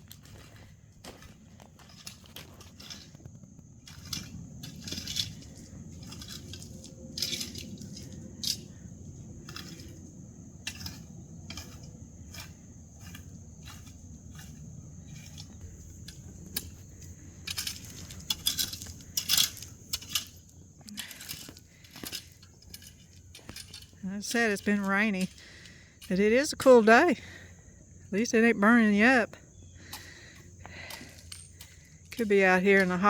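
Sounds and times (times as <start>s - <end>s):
rake scraping gravel: 0.0s - 33.0s.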